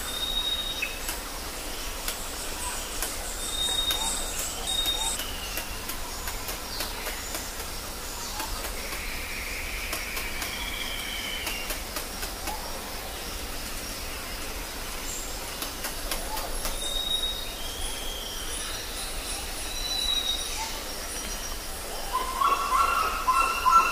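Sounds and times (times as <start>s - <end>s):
steady hiss: 0.0s - 22.2s.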